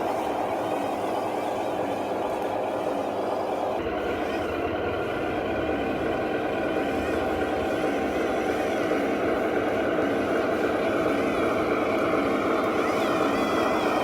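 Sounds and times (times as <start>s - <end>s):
model truck drivetrain running: 0.0s - 14.0s.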